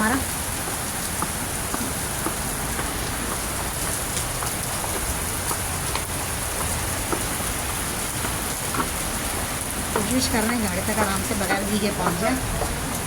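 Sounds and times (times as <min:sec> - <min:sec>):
heavy rain pouring: 0:00.0 - 0:13.0
raindrops hitting surfaces: 0:00.0 - 0:13.0.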